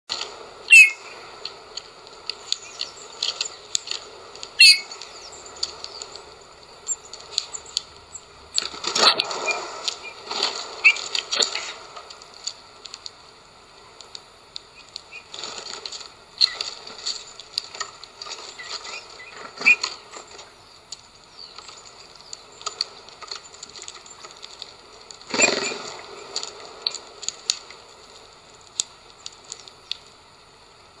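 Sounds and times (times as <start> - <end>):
birds' beaks tapping seeds: 0.1 - 30.2
rustling bursts: 0.1 - 31.0.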